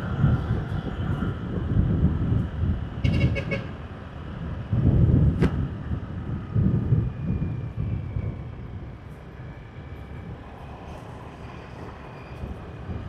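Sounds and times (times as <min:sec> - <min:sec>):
wind and tyre rumble: 0:00.0 - 0:13.0.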